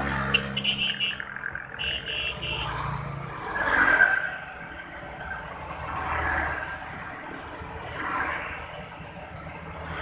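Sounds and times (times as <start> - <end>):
motorbikes passing: 0.0 - 10.0.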